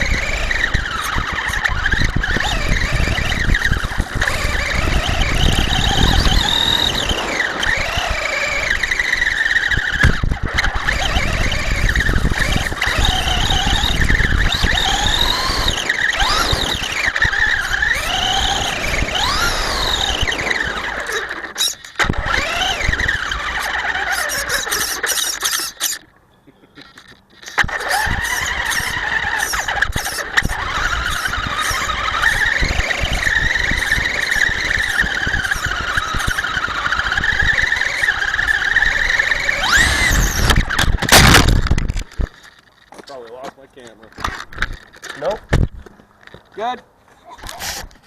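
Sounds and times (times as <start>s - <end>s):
toy truck motor whining: 0.0s - 26.1s, 26.8s - 42.9s, 47.3s - 48.0s.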